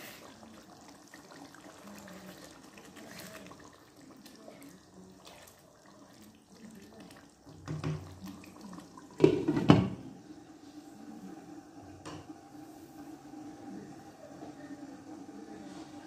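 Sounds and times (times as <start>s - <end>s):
curry simmering in a wok: 0.0s - 16.0s.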